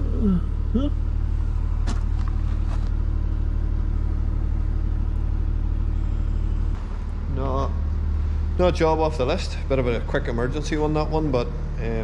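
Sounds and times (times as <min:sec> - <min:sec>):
diesel generator engine running: 0:00.0 - 0:12.0.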